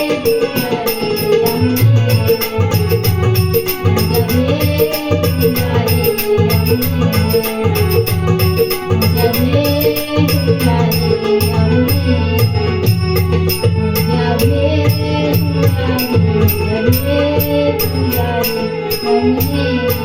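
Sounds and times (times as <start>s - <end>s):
jingling rattling percussion: 0.0s - 20.0s.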